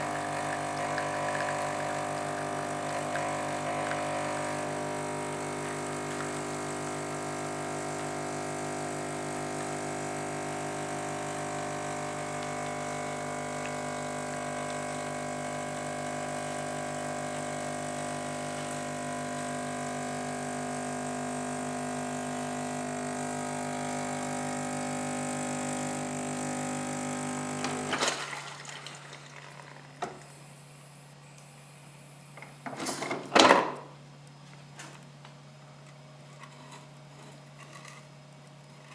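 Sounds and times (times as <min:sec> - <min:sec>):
coffee machine pump humming: 0:00.0 - 0:38.9.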